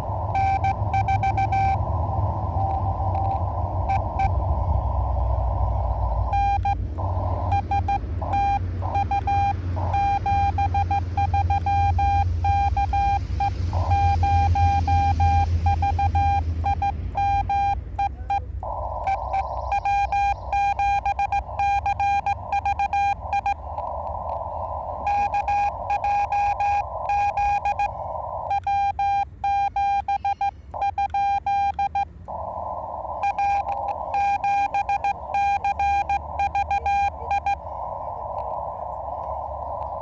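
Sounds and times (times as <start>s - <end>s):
low rumble: 0.0s - 40.0s
receiver static: 0.0s - 40.0s
morse code tone: 0.3s - 4.4s, 6.2s - 23.8s, 25.0s - 32.1s, 33.2s - 37.6s.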